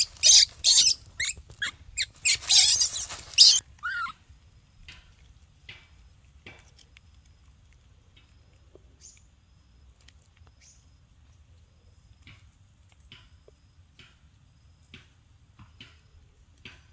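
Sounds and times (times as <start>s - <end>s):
faint ticks and crackles: 0.0s - 16.9s.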